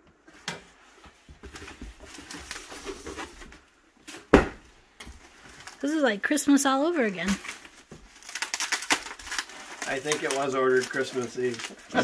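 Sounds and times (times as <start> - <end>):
packing paper rustling: 1.2 - 4.3, 5.1 - 12.0.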